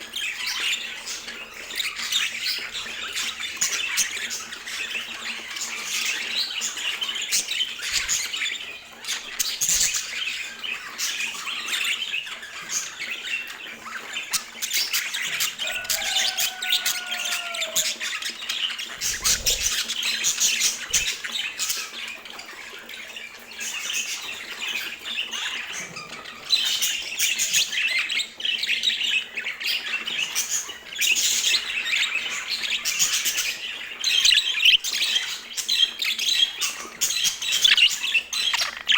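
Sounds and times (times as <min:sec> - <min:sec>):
budgerigars chattering: 0:00.2 - 0:38.9.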